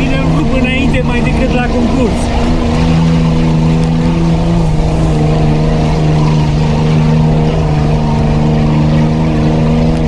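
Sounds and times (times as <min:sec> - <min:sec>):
engine running inside cabin: 0:00.0 - 0:10.0.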